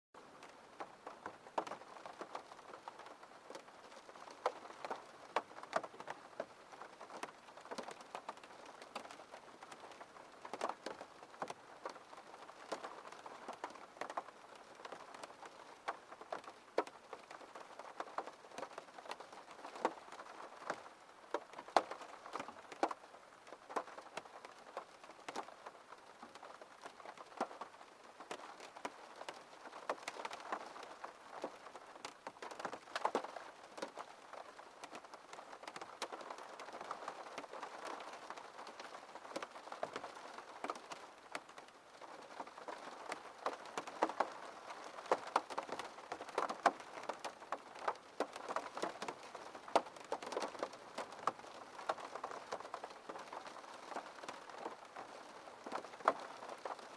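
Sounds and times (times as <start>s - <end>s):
rain pattering on window glass: 0.2s - 56.9s.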